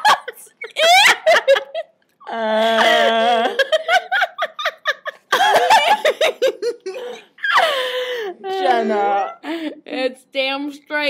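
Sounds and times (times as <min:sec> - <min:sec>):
young women laughing: 0:00.0 - 0:09.8.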